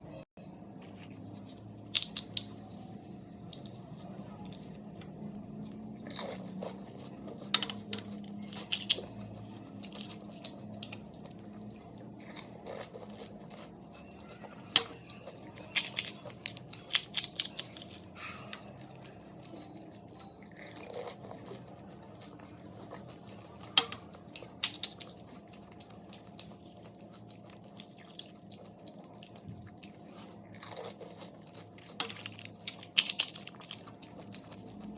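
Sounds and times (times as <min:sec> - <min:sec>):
crisp shells crunching: 0:00.7 - 0:04.9, 0:05.9 - 0:19.6, 0:20.5 - 0:34.9
chewing: 0:00.8 - 0:34.9.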